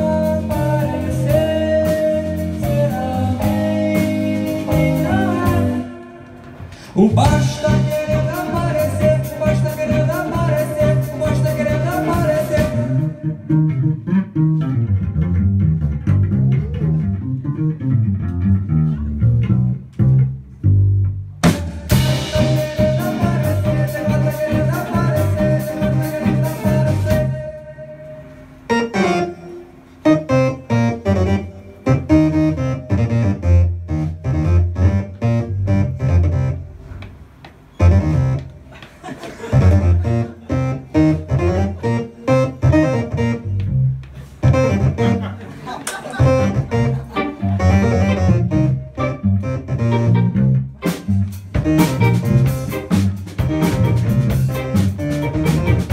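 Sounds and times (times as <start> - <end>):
live band playing: 0.0 - 55.9.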